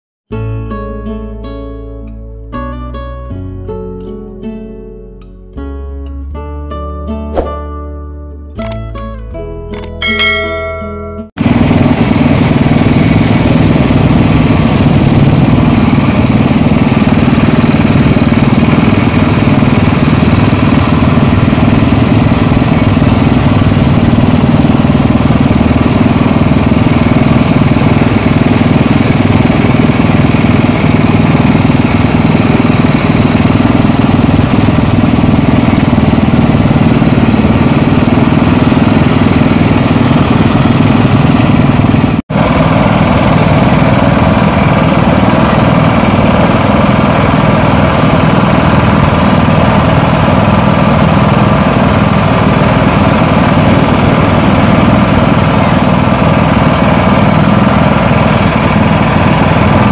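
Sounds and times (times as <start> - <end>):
small petrol engine running: 9.8 - 59.9.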